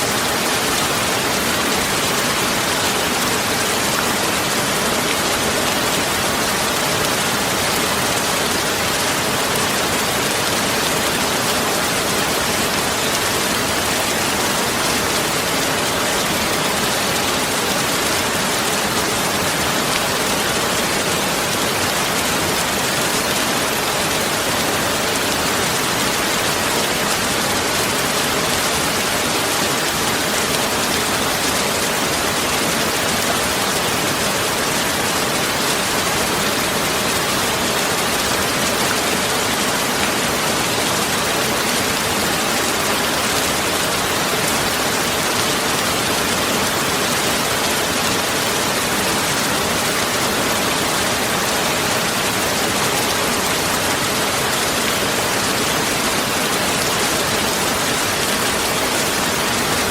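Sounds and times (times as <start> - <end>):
rain rushing: 0.0 - 59.9.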